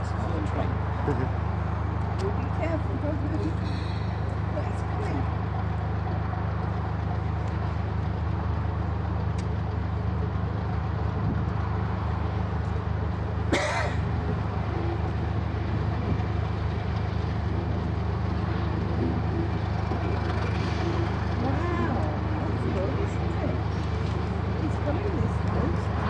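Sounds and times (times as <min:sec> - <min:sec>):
diesel locomotive engine idling: 0:00.0 - 0:26.0.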